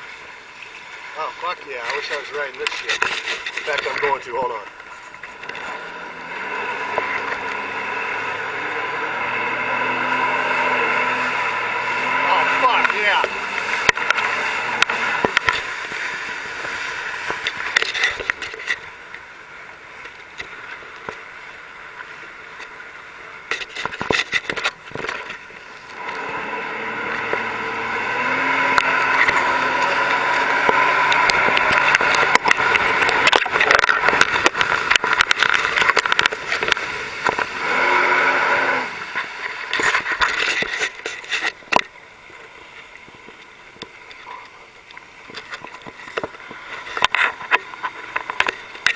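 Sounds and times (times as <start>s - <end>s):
boat engine humming: 0.0s - 48.9s
water noise: 0.0s - 48.9s
wind: 0.0s - 48.9s.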